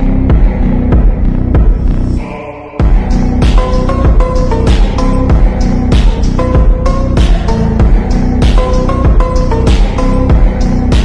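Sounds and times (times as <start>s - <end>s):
phonk track with deep bass: 0.0s - 11.0s.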